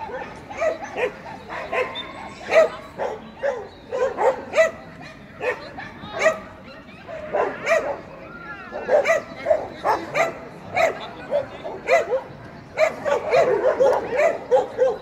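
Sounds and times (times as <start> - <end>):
dog barking: 0.0 - 6.4, 7.2 - 8.0, 8.9 - 15.0.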